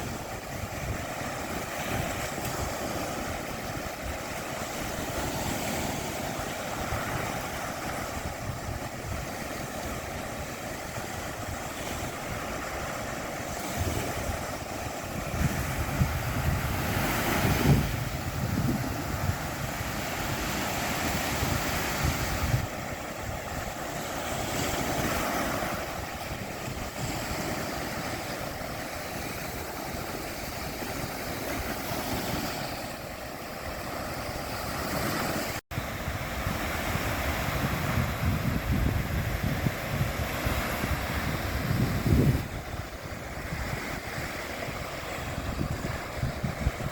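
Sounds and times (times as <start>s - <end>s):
surf washing onto beach: 0.0s - 46.9s
wind buffeting microphone: 0.0s - 46.9s.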